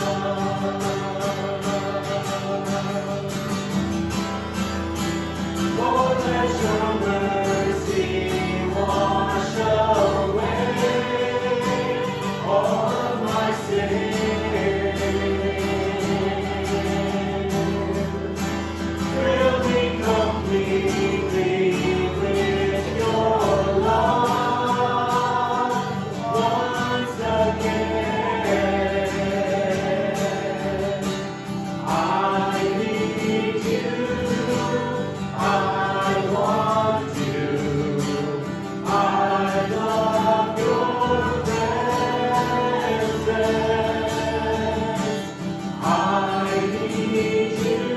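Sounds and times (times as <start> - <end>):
strummed acoustic guitar: 0.0 - 47.9
voices singing together: 0.0 - 47.9.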